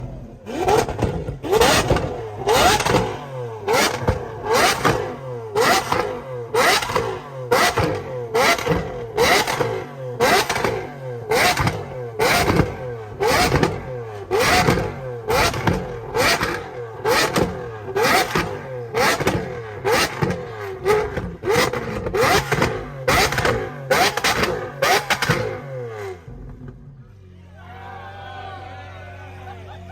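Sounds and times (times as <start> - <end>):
car engine revving in sharp blips: 0.0 - 27.0.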